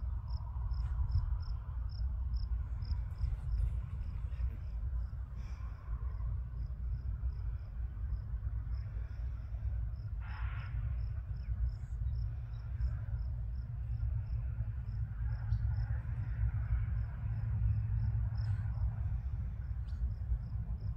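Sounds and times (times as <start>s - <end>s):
cricket chirping: 0.0s - 20.9s
low rumble: 0.0s - 20.9s.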